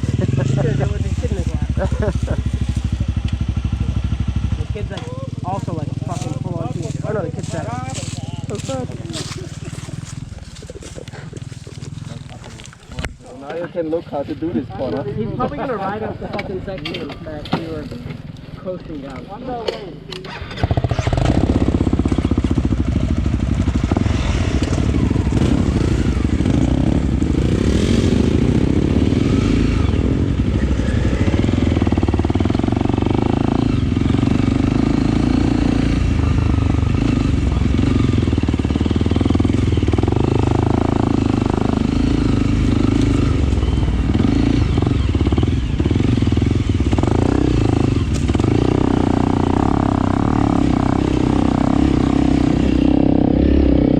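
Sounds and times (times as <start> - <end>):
dirt bike engine under throttle: 0.0 - 53.9.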